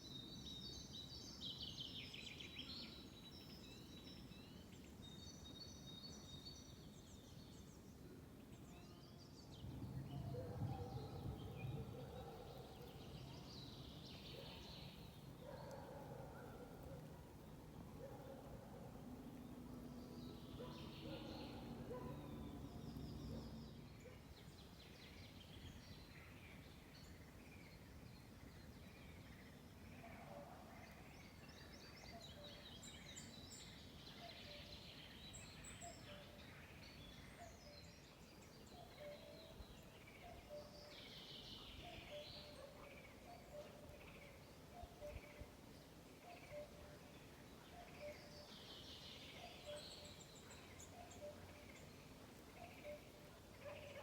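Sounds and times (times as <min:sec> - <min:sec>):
birds chirping and trilling: 0:08.6 - 0:54.0.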